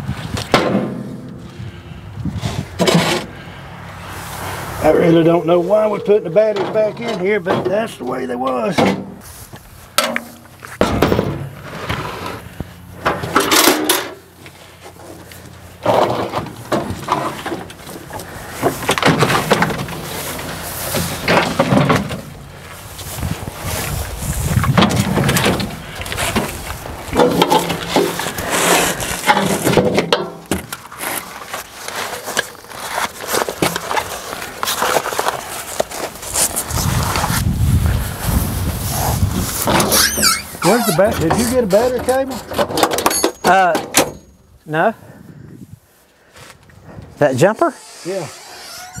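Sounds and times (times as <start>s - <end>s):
heavy batteries clunking and scraping: 0.0s - 4.4s, 5.7s - 37.4s, 39.0s - 44.3s.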